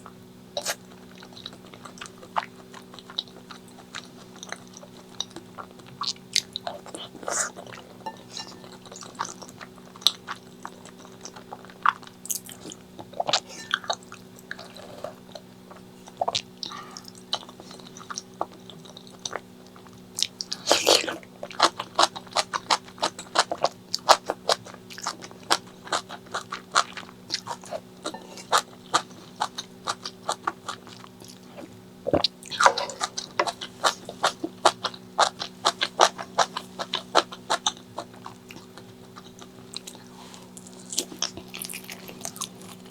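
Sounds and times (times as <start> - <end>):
crunchy chewing: 0.0 - 42.9.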